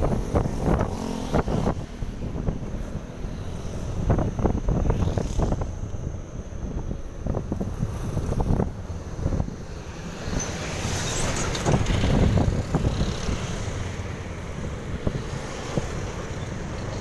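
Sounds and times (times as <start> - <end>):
motorcycle engine rumble: 0.0 - 17.0
passing traffic: 0.0 - 17.0
wind buffeting microphone: 0.0 - 17.0.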